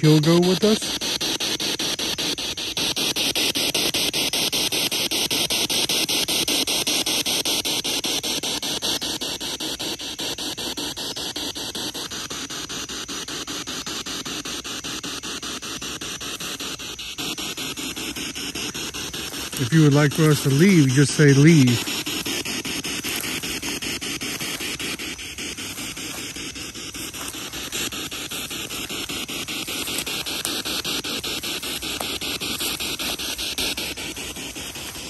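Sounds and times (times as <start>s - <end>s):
radio static sweeping: 0.0s - 35.0s.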